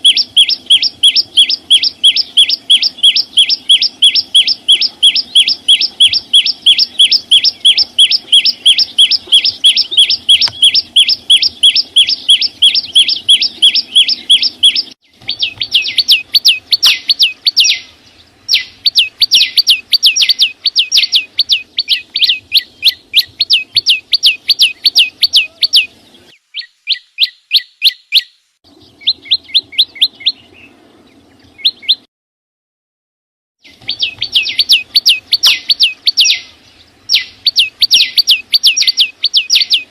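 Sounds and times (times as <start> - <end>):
songbird chirping: 0.0 - 32.1, 33.6 - 39.9.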